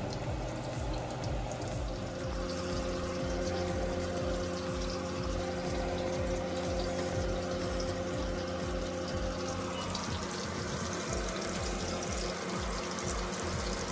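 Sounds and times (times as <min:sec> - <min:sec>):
chicken sizzling in oil: 0:00.0 - 0:13.9
soft background music: 0:00.0 - 0:13.9.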